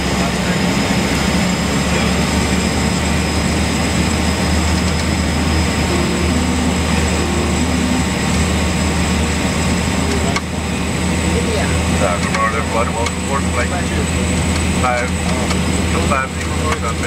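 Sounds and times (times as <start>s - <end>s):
turboprop aircraft cabin drone: 0.0s - 17.0s.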